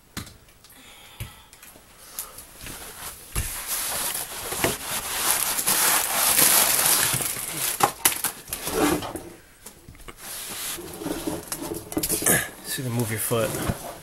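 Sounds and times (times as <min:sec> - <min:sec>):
rustling and scraping of objects: 0:01.6 - 0:14.0.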